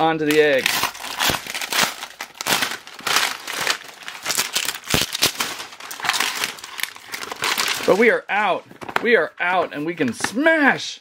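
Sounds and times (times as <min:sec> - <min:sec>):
plastic wrap crinkling and tearing: 0:00.0 - 0:09.0.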